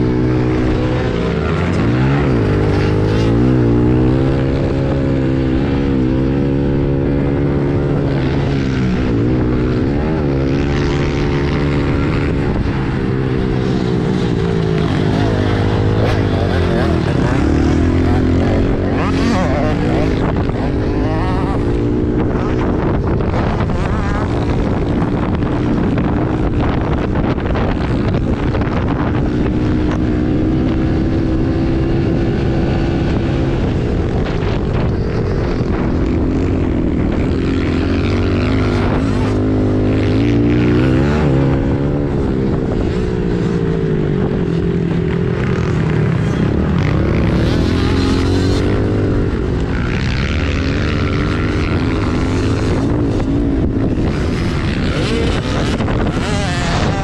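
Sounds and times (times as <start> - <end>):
pit bike engine revving: 0.0 - 57.0.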